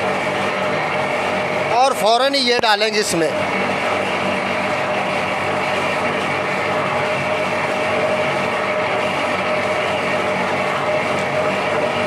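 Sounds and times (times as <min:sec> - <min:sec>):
mixer mechanical drone: 0:00.0 - 0:12.0
steady hum: 0:00.0 - 0:12.0.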